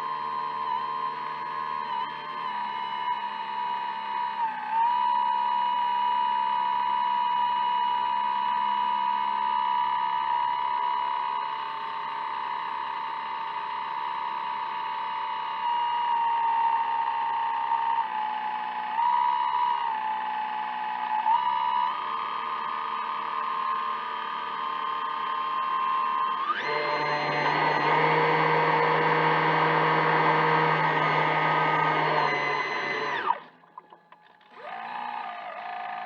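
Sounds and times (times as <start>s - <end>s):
model motor whine: 0.0s - 36.0s.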